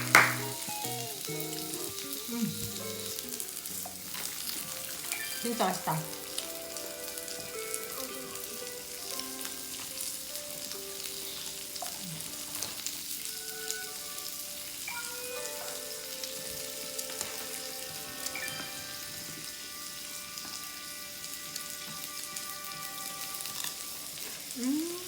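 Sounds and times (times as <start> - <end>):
meat sizzling on a skillet: 0.0 - 25.0.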